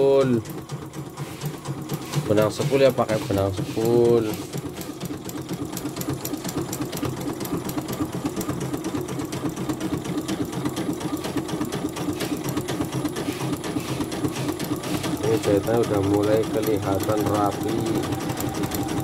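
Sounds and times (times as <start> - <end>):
embroidery machine stitching: 0.0 - 19.0.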